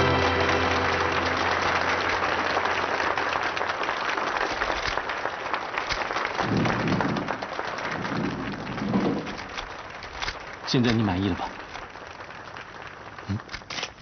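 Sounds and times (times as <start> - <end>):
crowd applauding: 0.0 - 13.7.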